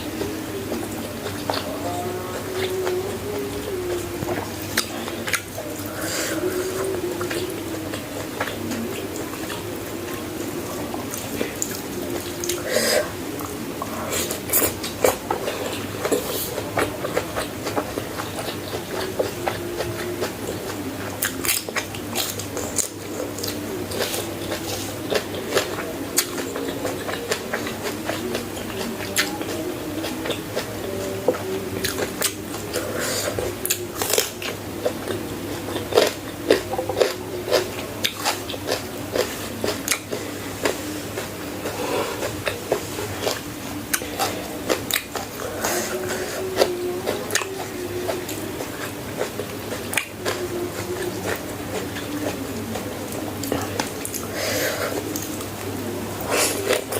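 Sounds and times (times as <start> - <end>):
crisp crunching chewing: 0.1 - 56.9.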